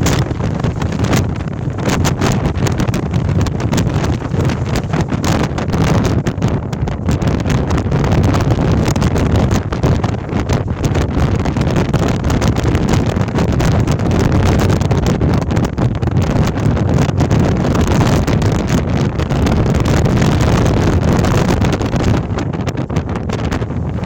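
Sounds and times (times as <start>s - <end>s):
storm wind buffeting microphone: 0.0s - 24.0s.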